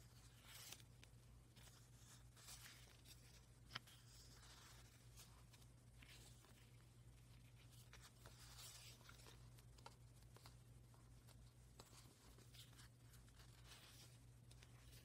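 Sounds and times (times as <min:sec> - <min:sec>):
cards rustling and ticking: 0:00.0 - 0:15.0.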